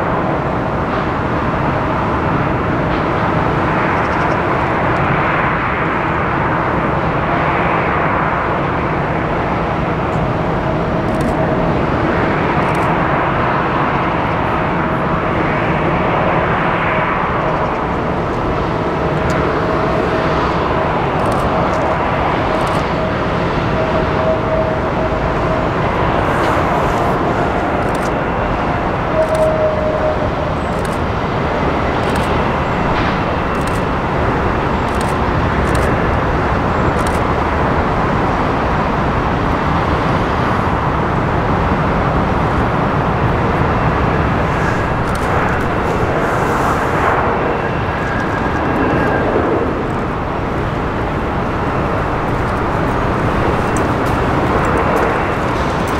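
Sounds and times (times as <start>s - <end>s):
jet engine rumble: 0.0s - 55.9s.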